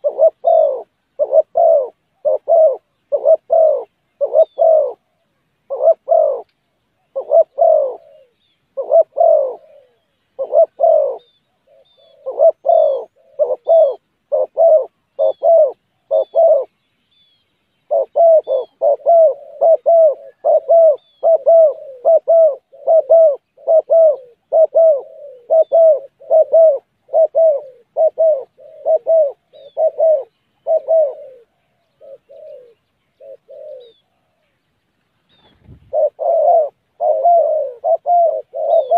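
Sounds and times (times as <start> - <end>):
dove cooing: 0.0 - 16.8, 17.8 - 34.6, 35.3 - 38.9
small birds chirping: 0.0 - 38.9.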